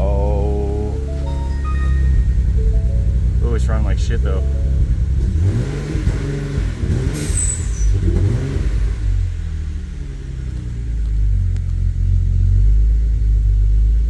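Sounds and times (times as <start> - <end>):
car engine running roughly: 2.3 - 14.0.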